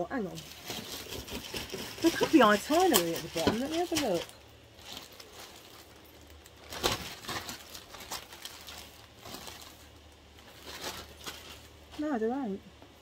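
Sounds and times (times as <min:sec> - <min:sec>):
parcel packaging rustling: 0:00.1 - 0:12.3.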